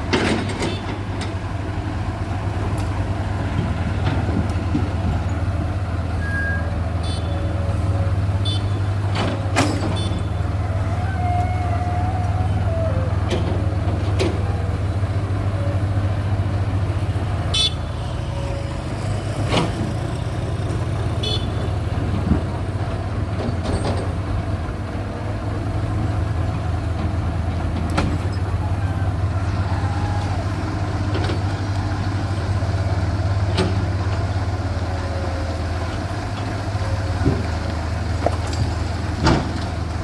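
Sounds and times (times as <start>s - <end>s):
diesel engine running at low revs: 0.0s - 40.0s.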